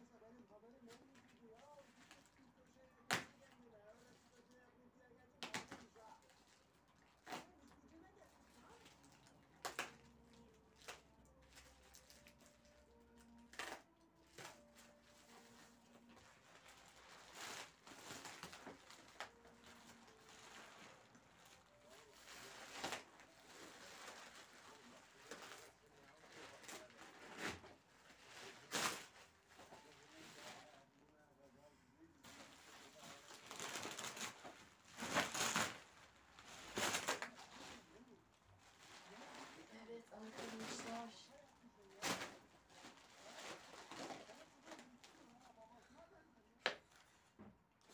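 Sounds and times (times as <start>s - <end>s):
packaging crinkling and rustling: 5.4s - 31.2s, 32.2s - 47.9s.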